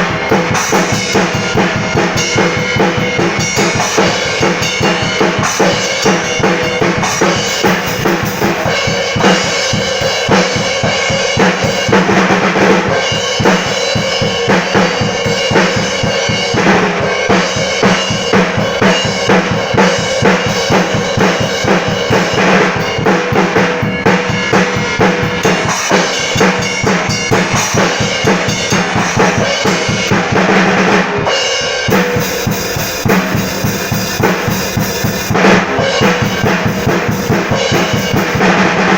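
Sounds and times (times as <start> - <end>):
ringing cymbals: 0.0 - 30.4, 31.3 - 38.6
kick and snare drum strokes: 0.0 - 31.3, 31.9 - 38.9.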